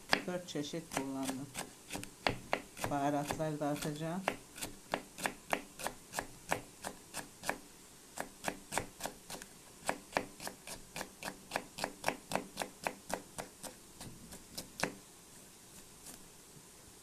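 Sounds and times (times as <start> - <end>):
knife chopping on wooden board: 0.0 - 0.3, 0.9 - 7.6, 8.2 - 15.0.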